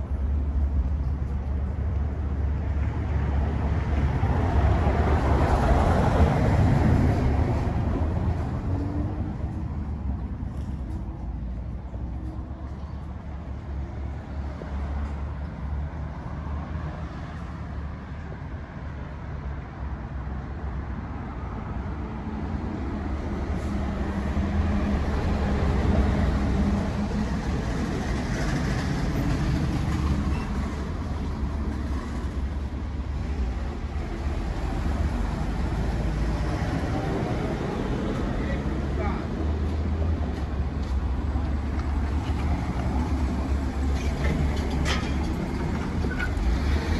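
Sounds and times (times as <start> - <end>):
low rumble of road traffic: 0.0 - 46.9.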